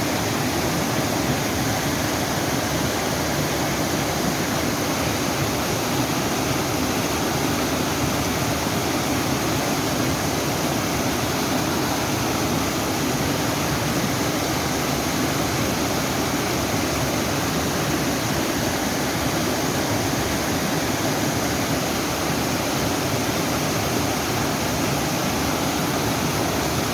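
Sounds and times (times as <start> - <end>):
waterfall pouring over rocks: 0.0 - 26.9.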